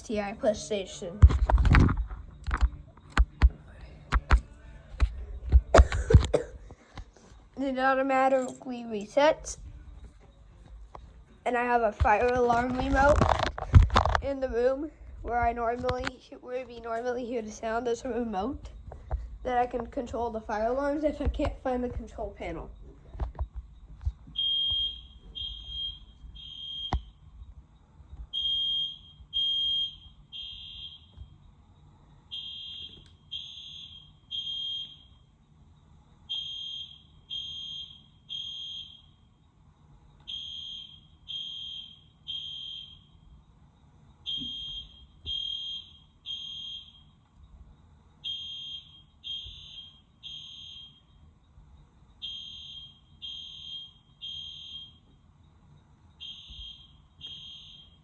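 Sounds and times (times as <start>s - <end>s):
fire alarm beeping: 7.6s - 14.7s, 16.8s - 58.0s.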